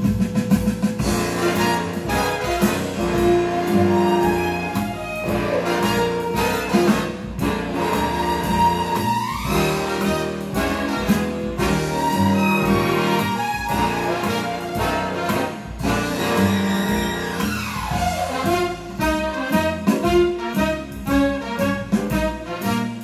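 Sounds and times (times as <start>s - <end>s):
big band music with brass: 0.0s - 23.0s.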